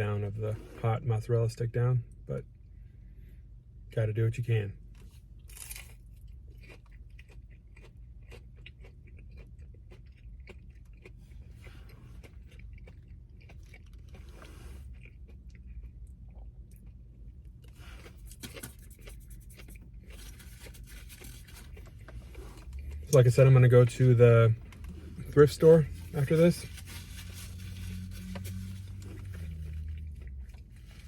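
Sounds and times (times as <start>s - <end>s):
crunching crispy fried food: 5.0s - 31.0s
wet chewing: 5.5s - 31.0s.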